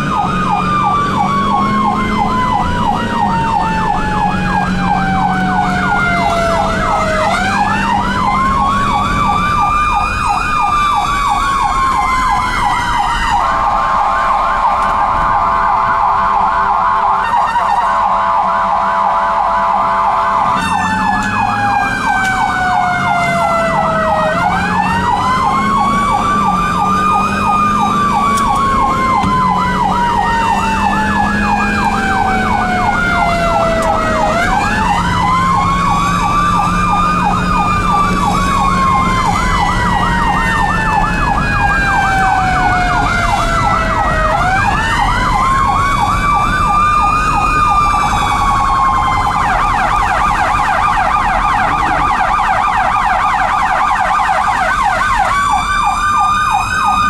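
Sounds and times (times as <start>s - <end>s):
electronic siren yelp: 0.0s - 57.0s
mechanical siren wailing: 0.0s - 57.0s.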